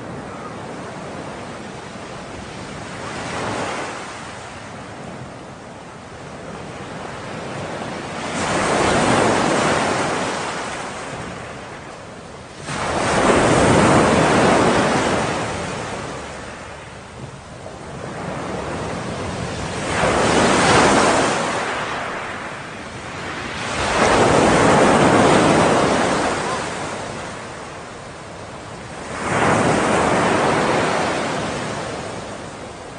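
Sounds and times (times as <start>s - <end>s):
ocean waves breaking: 0.0s - 32.9s.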